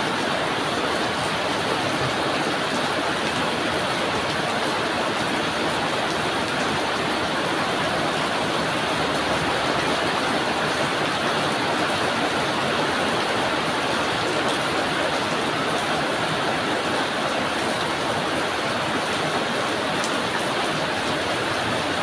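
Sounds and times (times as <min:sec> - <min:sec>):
drizzling rain: 0:00.0 - 0:22.0.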